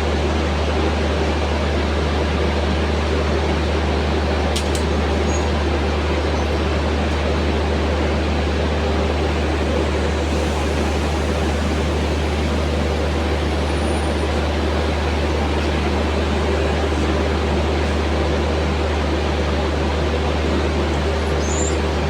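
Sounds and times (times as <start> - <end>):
train machinery humming: 0.0 - 22.0.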